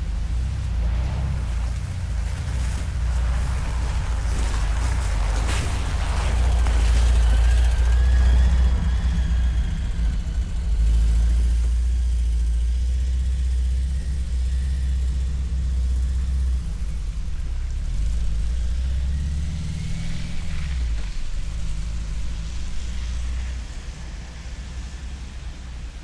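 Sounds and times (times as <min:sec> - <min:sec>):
van engine and road rumble: 0:00.0 - 0:26.0.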